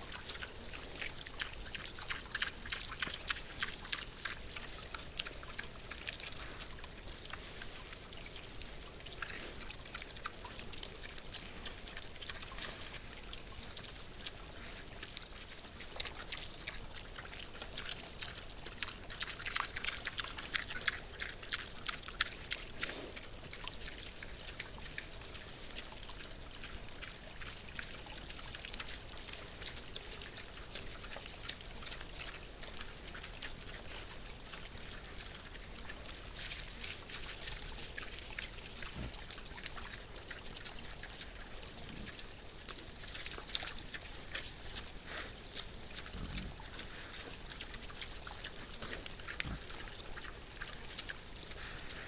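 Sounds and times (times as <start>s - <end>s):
wild boars chewing and rooting: 0.0s - 52.0s.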